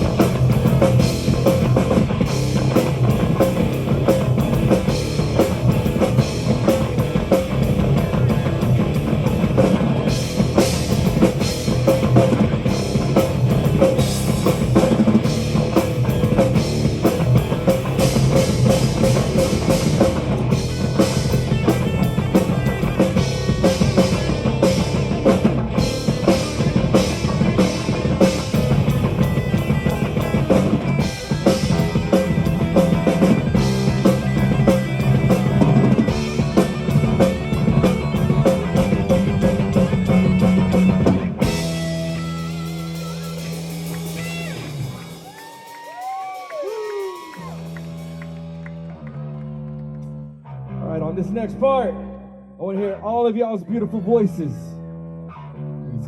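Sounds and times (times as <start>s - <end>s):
drum kit beat: 0.0s - 48.6s
electric guitars: 0.0s - 56.0s.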